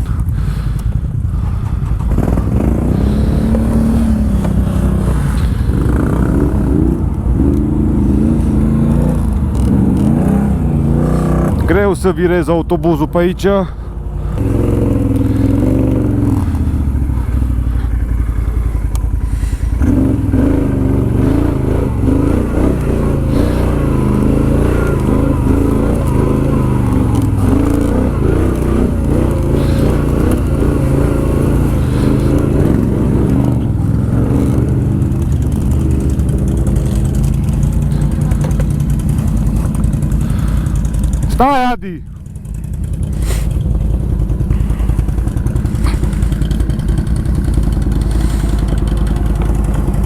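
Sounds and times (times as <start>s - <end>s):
atv engine revving: 0.0s - 50.0s.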